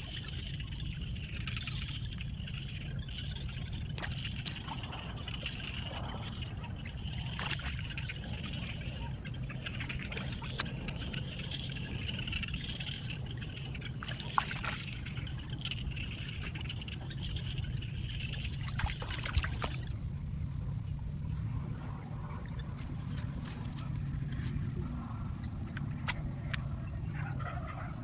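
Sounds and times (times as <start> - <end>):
water trickling: 0.0 - 26.8.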